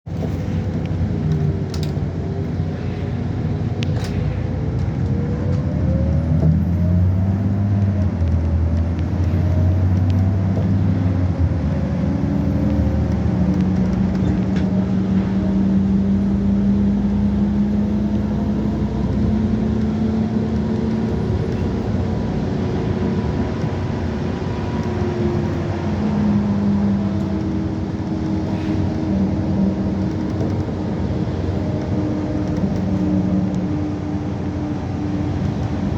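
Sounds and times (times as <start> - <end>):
constant noisy rush: 0.1 - 35.9
vehicle engine drone: 0.1 - 35.9.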